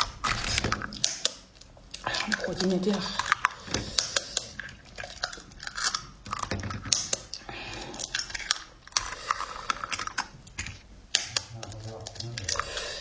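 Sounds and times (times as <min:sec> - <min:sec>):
person chewing noodles: 0:00.0 - 0:13.0
wet mouth clicks and smacks: 0:00.0 - 0:13.0.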